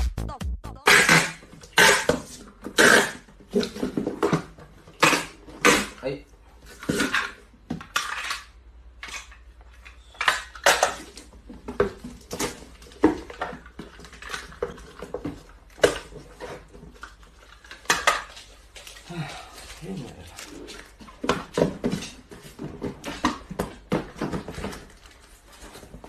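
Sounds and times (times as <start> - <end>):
hard objects clattering: 0.9 - 6.0, 6.6 - 26.0.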